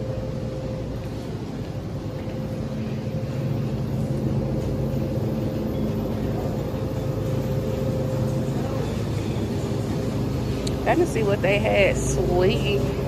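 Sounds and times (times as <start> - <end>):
refrigerated display cases humming: 0.0 - 13.0.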